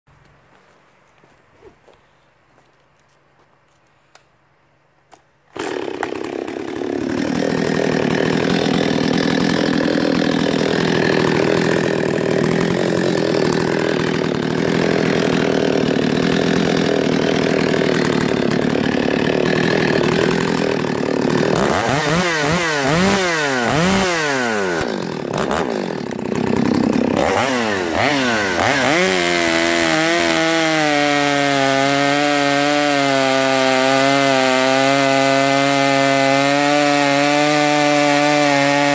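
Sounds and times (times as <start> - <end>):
chainsaw running and revving: 5.6 - 38.9.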